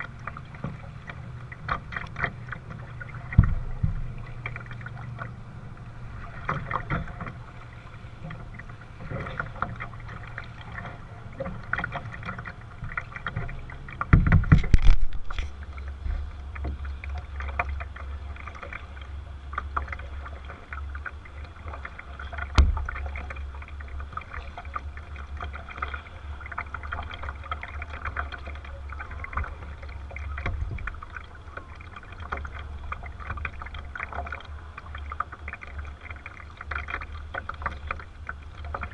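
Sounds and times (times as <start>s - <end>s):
water splashing against hull: 0.0s - 38.9s
wind rumble on microphone: 0.0s - 38.9s.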